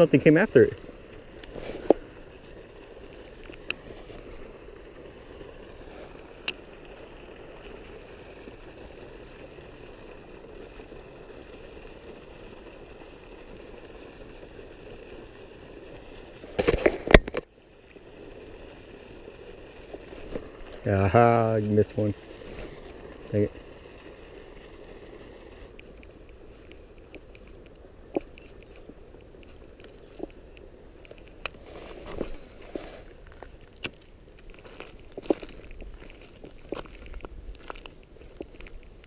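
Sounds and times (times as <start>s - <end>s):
fishing reel whirring: 0.0s - 38.7s.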